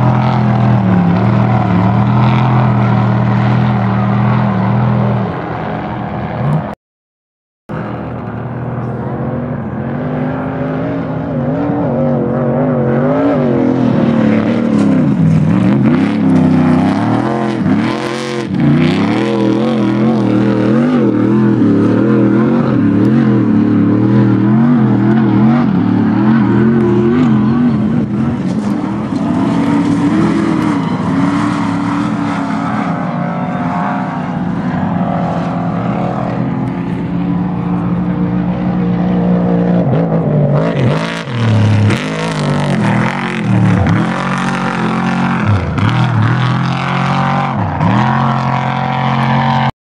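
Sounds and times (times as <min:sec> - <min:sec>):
truck engine revving hard: 0:00.0 - 0:06.8, 0:08.8 - 0:49.7.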